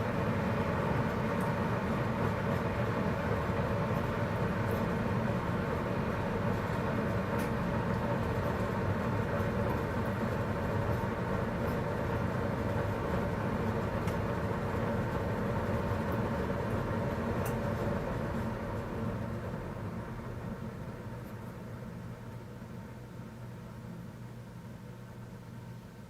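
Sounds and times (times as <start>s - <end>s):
coffee maker humming and hissing: 0.0s - 26.0s.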